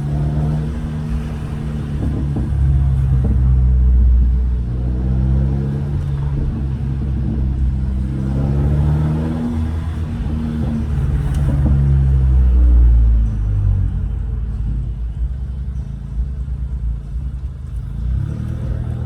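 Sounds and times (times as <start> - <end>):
car exhaust at low revs: 0.0 - 19.0.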